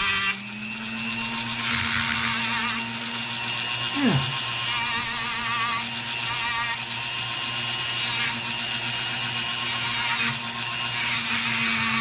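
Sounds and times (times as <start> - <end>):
power tool motor humming: 0.0 - 12.0.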